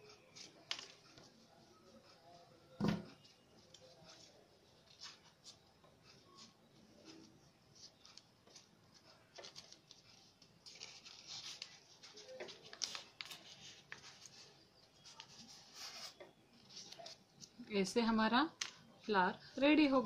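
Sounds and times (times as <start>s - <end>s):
paper rustling and crinkling: 0.0s - 2.3s, 3.1s - 17.6s.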